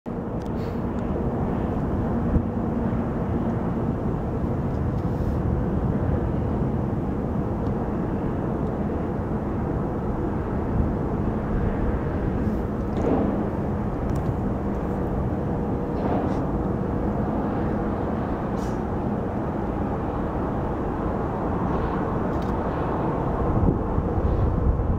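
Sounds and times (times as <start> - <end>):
jet engines low rumble: 0.1 - 24.9.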